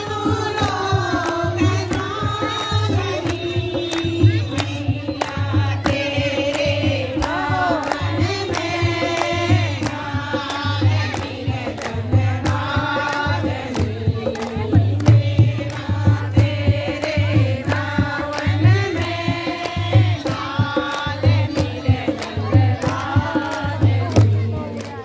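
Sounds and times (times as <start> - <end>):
hand claps: 0.0 - 25.0
steady drum beat: 0.0 - 25.0
women singing together: 0.0 - 25.0.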